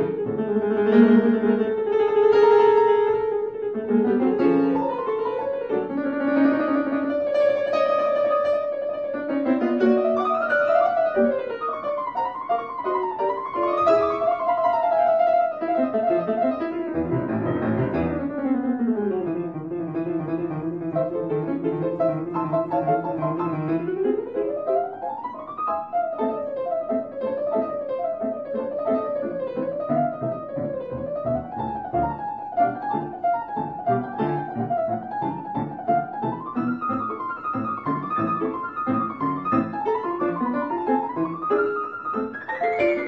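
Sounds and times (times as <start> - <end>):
instrumental piano music: 0.0 - 43.0.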